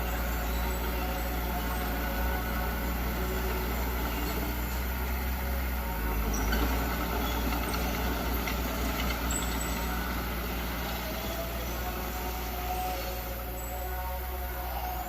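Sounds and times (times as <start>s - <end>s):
heavy diesel engine droning: 0.0s - 15.0s.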